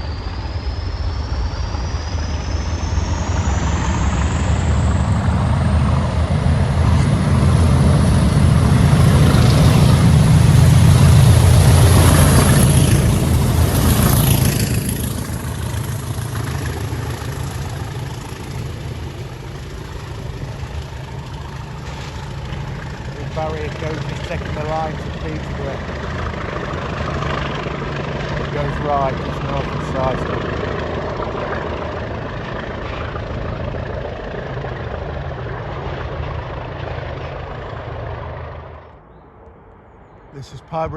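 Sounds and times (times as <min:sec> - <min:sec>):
diesel locomotive passing: 0:00.0 - 0:39.0.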